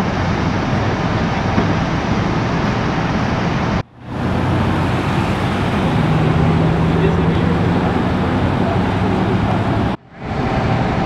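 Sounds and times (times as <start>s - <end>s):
traffic and engine noise: 0.0s - 11.0s.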